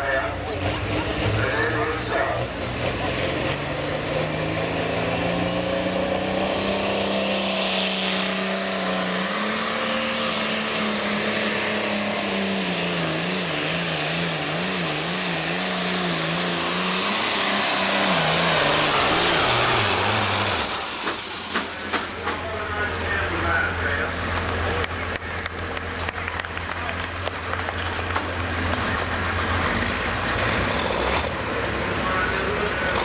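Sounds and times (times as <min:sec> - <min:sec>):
high turbo whine: 0:00.0 - 0:26.9
tractor diesel engine under load: 0:00.0 - 0:33.0.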